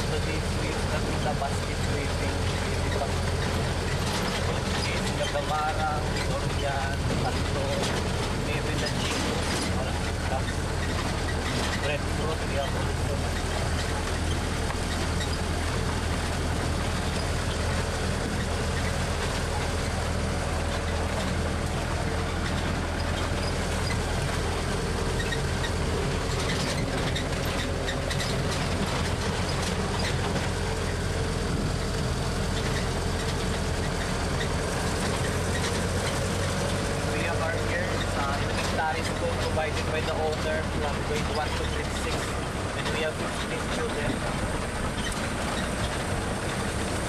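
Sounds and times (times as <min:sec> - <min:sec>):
tram engine humming: 0:00.0 - 0:47.0.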